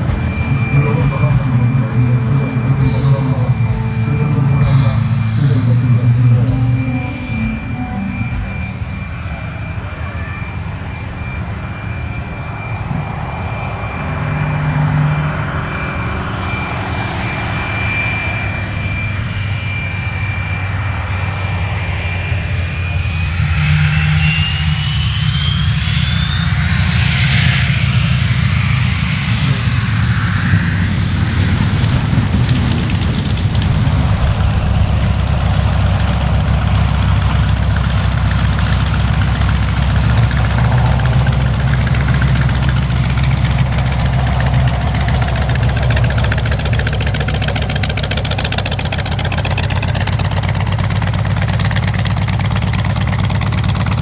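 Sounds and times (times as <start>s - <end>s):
high engine whine: 0.0s - 54.0s
radial aircraft engine droning: 0.0s - 54.0s.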